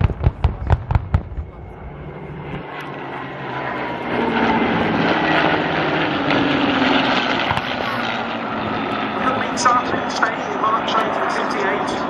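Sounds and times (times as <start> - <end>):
propeller aircraft passing overhead: 0.0 - 12.0.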